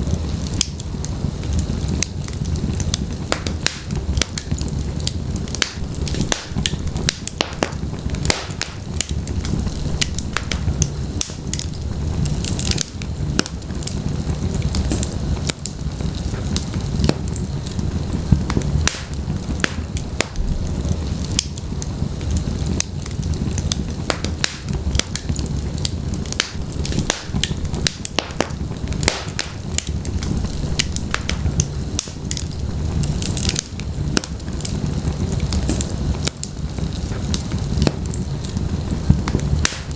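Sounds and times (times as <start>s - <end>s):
fire flames rumbling: 0.0s - 39.9s
fire popping and crackling: 0.0s - 39.9s.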